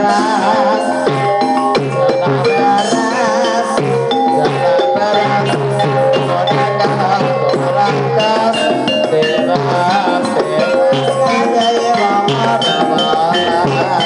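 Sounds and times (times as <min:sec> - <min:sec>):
gamelan music: 0:00.0 - 0:14.0
percussion strokes: 0:00.0 - 0:14.0.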